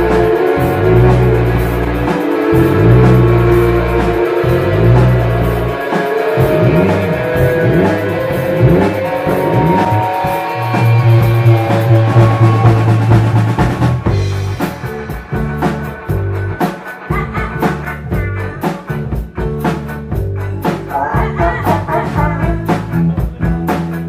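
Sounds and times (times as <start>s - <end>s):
drum hits: 0.0s - 20.4s
bass guitar: 0.0s - 24.0s
electric guitar: 0.0s - 24.0s.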